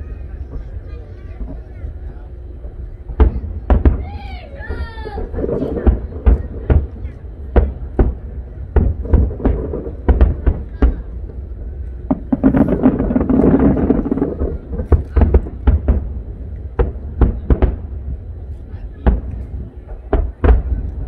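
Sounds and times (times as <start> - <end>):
crackling fireworks salvo: 0.0 - 21.0
fireworks bursting: 0.0 - 21.0.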